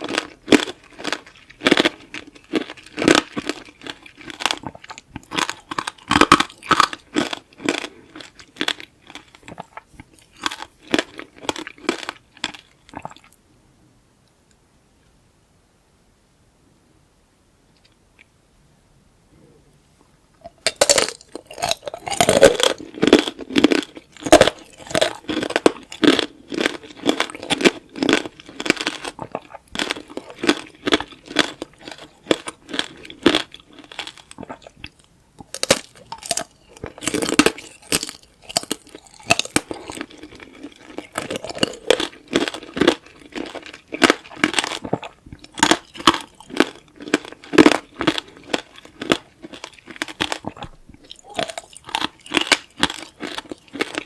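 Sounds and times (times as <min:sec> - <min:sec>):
crunching hard candy: 0:00.0 - 0:13.3, 0:20.4 - 0:54.0.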